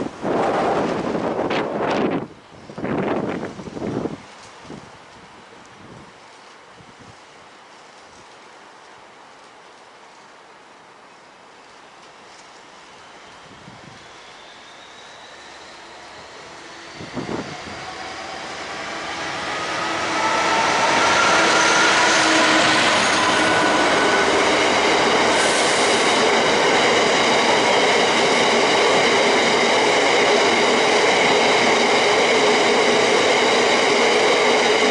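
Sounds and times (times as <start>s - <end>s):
freight train wheels rumbling on rail: 0.0s - 8.5s, 11.9s - 34.9s.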